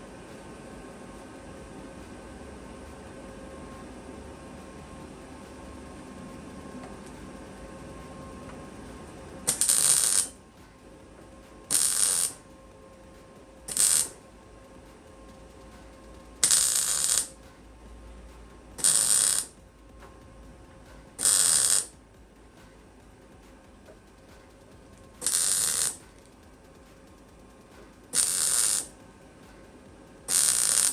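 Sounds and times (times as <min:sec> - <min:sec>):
crackling tack welds: 0:00.0 - 0:30.9.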